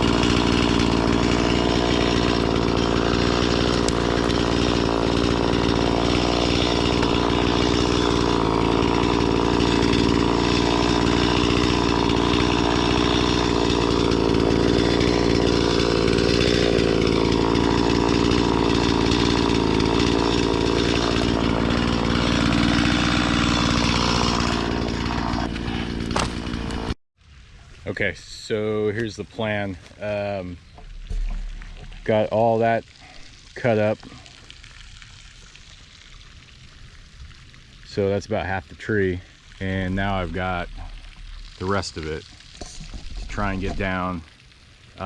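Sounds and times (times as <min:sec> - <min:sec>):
chainsaw cutting wood: 0:00.0 - 0:27.0, 0:29.0 - 0:35.7, 0:38.2 - 0:45.0.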